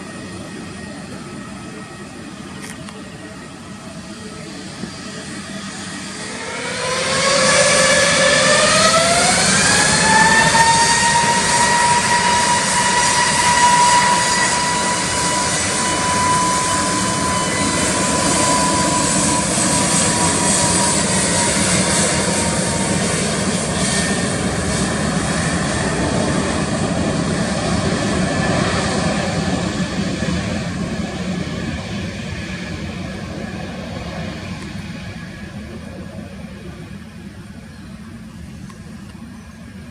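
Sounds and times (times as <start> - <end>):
jet engines high whine: 0.0 - 39.9.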